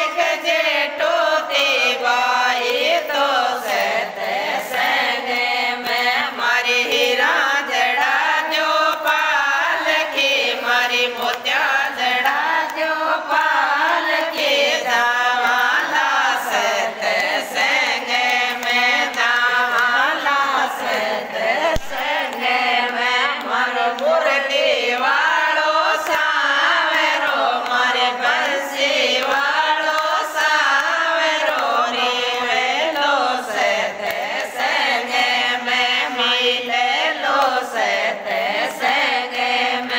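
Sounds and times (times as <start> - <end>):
women singing in unison: 0.0 - 39.9
sharp rhythmic taps: 0.2 - 39.8.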